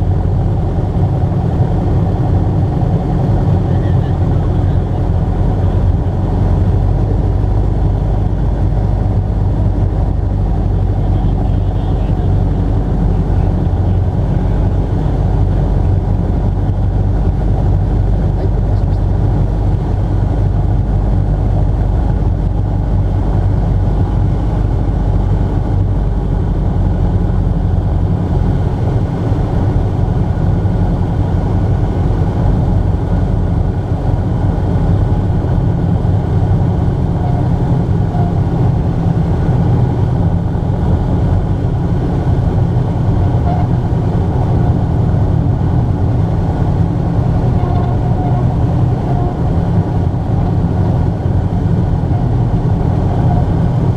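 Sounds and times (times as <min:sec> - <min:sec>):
motor glider engine and propeller drone: 0:00.0 - 0:53.9.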